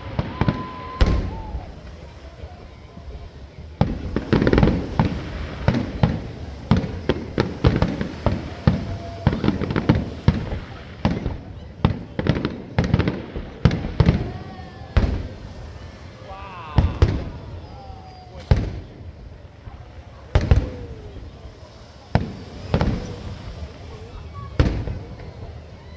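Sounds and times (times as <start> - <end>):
fireworks banging: 0.0 - 25.9.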